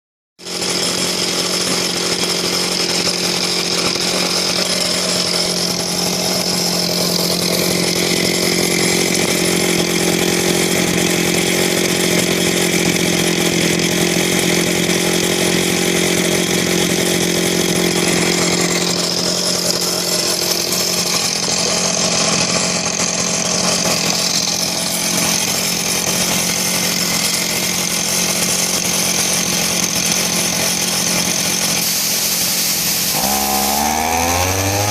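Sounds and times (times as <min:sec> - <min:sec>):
air compressor engine drone: 0:00.4 - 0:34.9.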